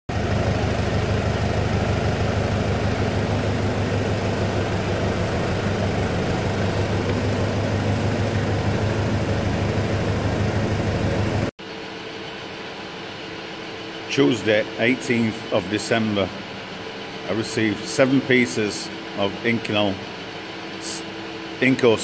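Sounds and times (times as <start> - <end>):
loud mechanical rumble: 0.1 - 22.0.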